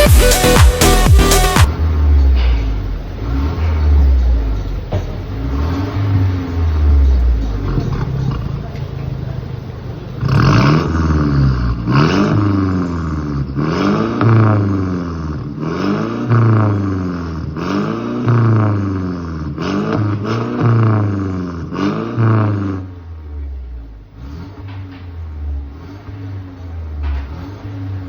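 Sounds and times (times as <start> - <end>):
car engine idling: 0.0 - 28.0
car engine revving: 0.0 - 28.0.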